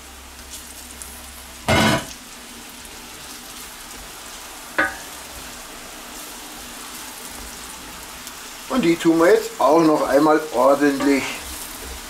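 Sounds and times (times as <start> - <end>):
mushrooms sizzling in butter: 0.0 - 12.0.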